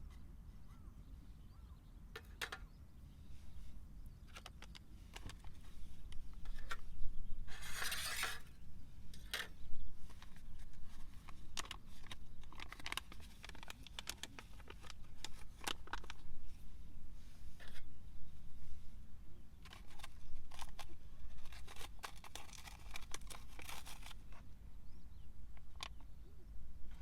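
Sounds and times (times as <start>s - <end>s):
rustle: 0.0s - 27.0s.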